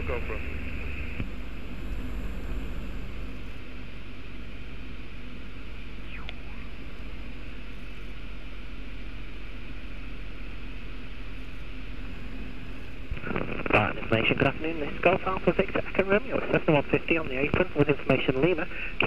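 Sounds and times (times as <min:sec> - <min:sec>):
aircraft engine and propeller: 0:00.0 - 0:19.0.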